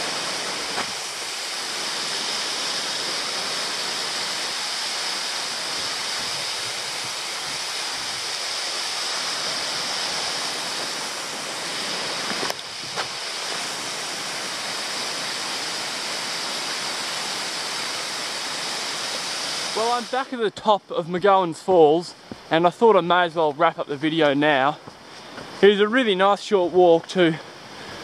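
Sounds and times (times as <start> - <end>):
waterfall rushing hiss: 0.0 - 28.0.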